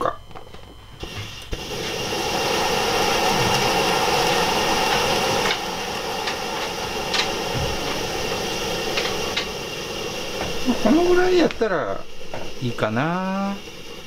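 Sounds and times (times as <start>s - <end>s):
stove burner hissing: 0.0s - 14.0s.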